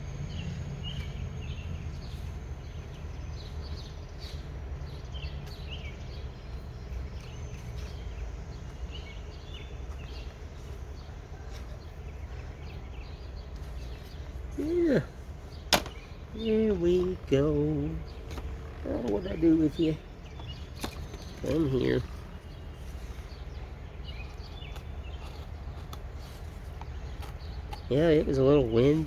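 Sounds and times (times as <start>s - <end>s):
birds chirping: 0.0s - 29.0s
low background rumble: 0.0s - 29.0s.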